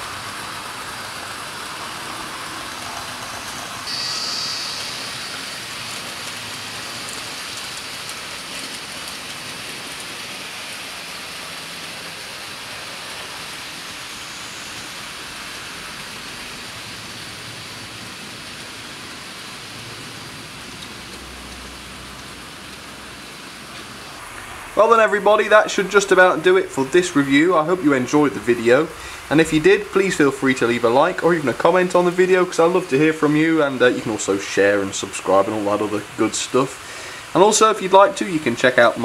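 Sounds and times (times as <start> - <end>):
model trains running on track: 0.0 - 39.0.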